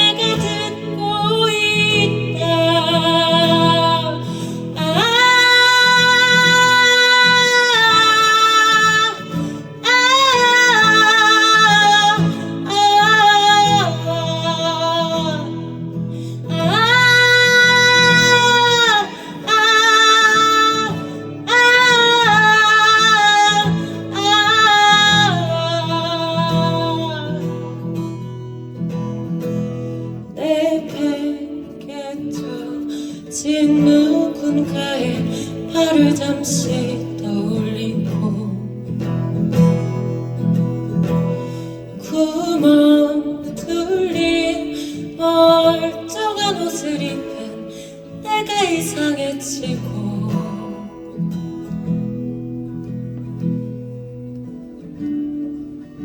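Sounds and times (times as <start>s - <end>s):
plucked acoustic guitar: 0.0s - 56.0s.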